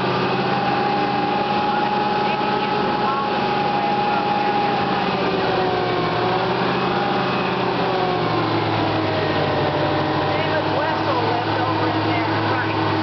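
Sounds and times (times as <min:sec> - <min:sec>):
fire engine running: 0:00.0 - 0:13.0.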